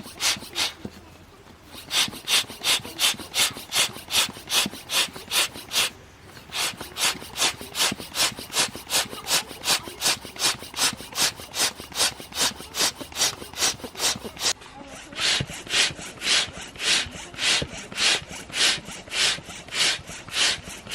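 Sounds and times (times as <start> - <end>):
hand saw cutting wood: 0.0 - 20.9.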